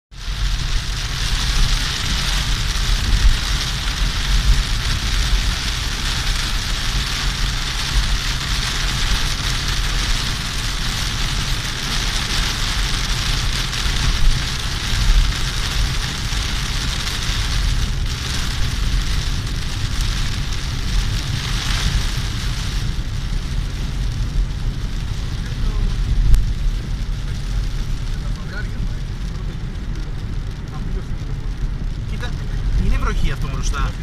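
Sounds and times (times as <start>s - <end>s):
heavy rain on car roof: 0.1s - 34.0s.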